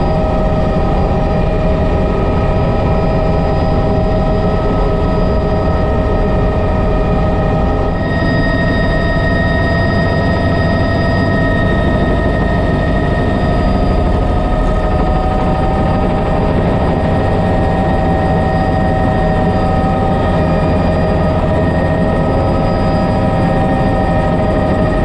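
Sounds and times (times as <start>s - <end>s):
helicopter rotor noise: 0.0s - 25.0s
helicopter turbine whine: 0.0s - 25.0s.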